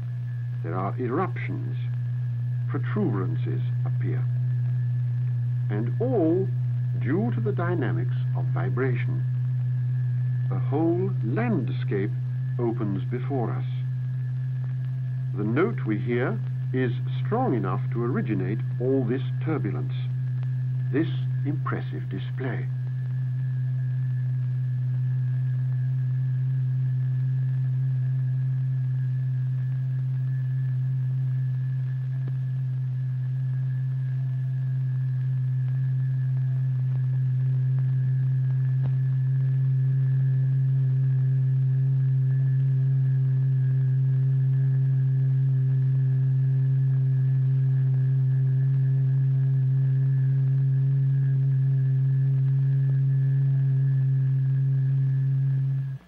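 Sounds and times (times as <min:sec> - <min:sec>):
steady low tone: 0:00.0 - 0:56.0.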